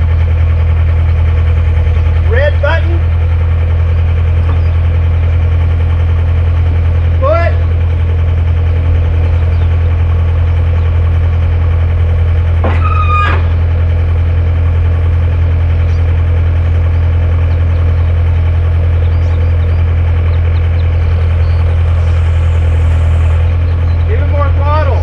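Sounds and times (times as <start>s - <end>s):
backhoe engine idling: 0.0s - 25.0s.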